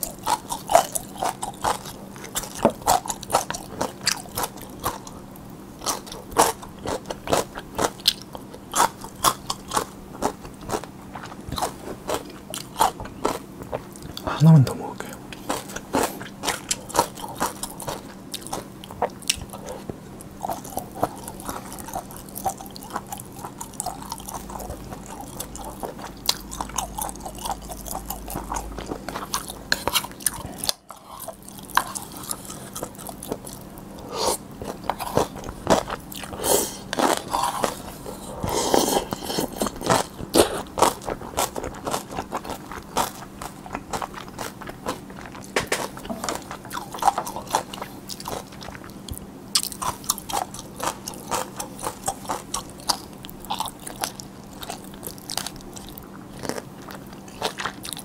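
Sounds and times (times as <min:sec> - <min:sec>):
chewing and biting noodles: 0:00.0 - 0:58.0.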